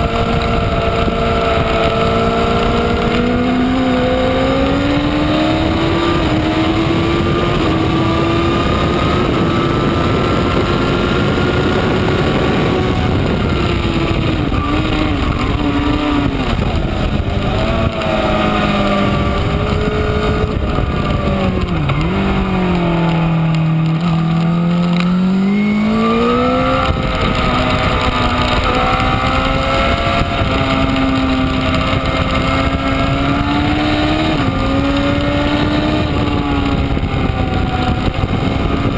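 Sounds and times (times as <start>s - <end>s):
motorcycle engine running hard: 0.0s - 38.9s
wind rush: 0.0s - 38.9s.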